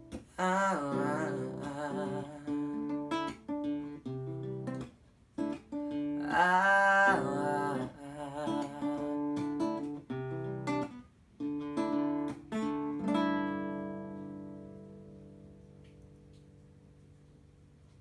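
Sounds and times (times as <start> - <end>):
acoustic guitar playing: 0.0 - 17.7.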